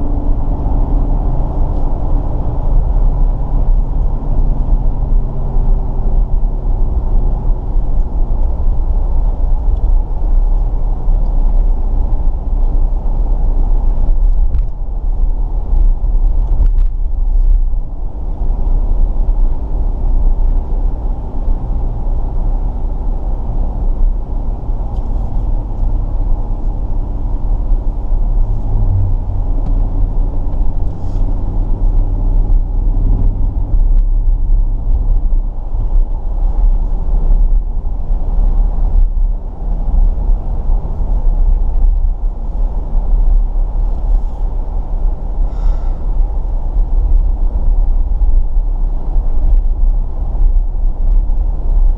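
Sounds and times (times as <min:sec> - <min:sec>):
car engine running: 0:00.0 - 0:51.9
tyres rumbling on road: 0:00.0 - 0:51.9.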